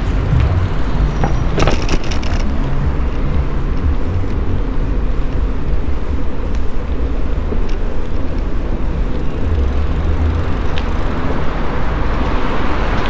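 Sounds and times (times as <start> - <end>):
bicycle clicks and rattles: 0.0 - 13.0
wind and rolling rumble: 0.0 - 13.0.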